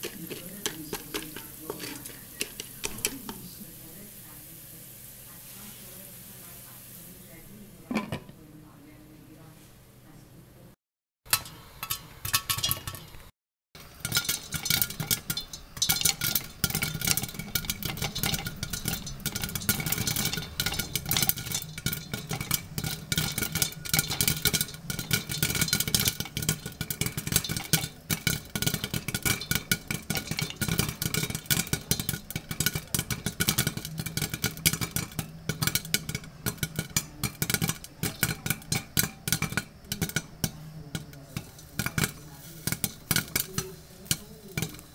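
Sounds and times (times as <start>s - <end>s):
popcorn popping: 0.0s - 8.4s, 11.3s - 44.9s
oil sizzling: 0.0s - 8.8s, 11.2s - 44.9s.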